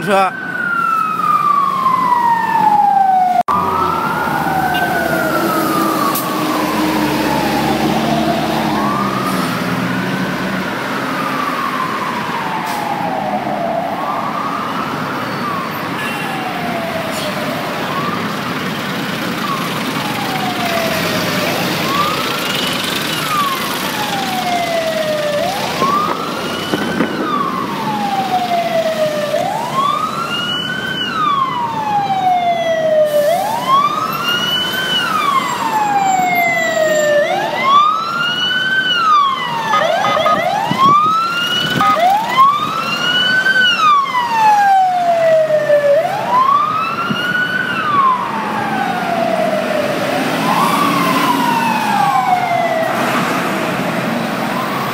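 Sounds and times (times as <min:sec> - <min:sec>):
fire engine sirens wailing: 0:00.0 - 0:54.9
traffic noise: 0:00.0 - 0:54.9.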